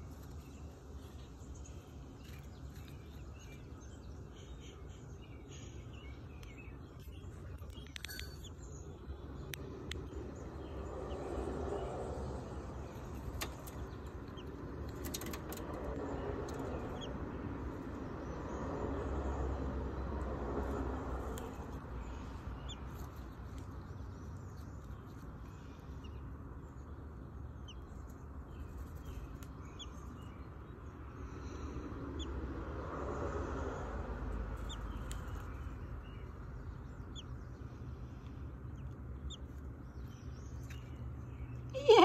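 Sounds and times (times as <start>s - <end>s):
steady low rumble: 0.0s - 41.8s.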